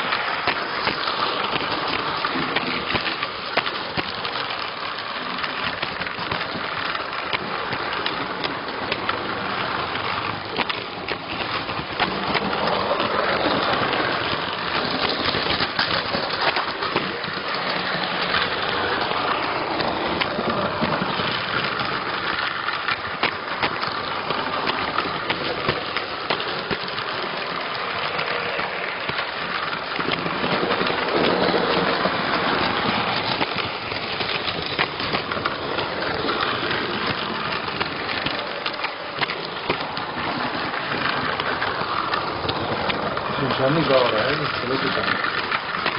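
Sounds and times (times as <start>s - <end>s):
model train wheels rattling: 0.0s - 45.9s.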